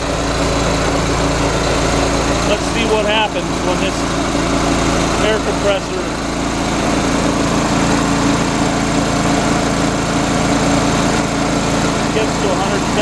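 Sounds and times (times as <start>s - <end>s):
gas engine air compressor running: 0.0s - 13.0s.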